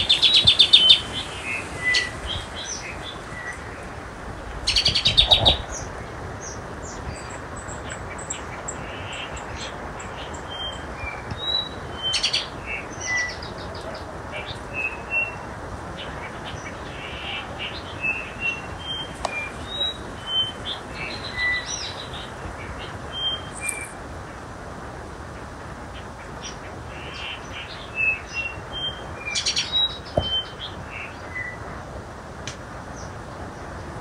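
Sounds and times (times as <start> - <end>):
birds chirping: 0.0 - 24.0, 25.4 - 31.7
steady hiss: 0.0 - 34.0.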